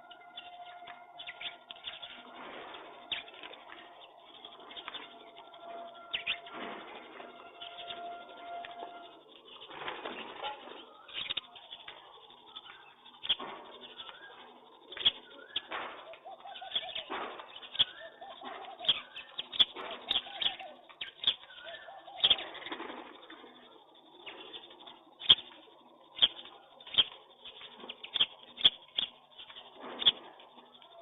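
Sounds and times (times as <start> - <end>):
birds chirping: 0.0 - 31.0
pigeons cooing: 0.0 - 31.0.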